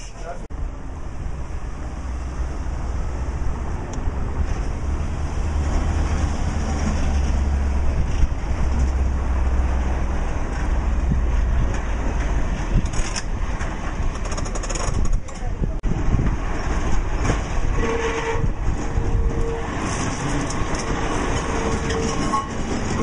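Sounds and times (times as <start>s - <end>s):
tram rumbling over rails: 0.0s - 23.0s.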